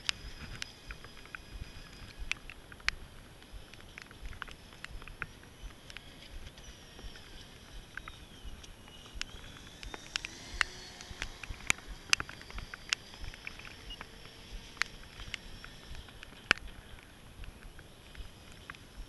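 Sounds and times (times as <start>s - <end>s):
electric motor whine: 0.0s - 19.0s
sharp clicks and taps: 0.0s - 19.0s.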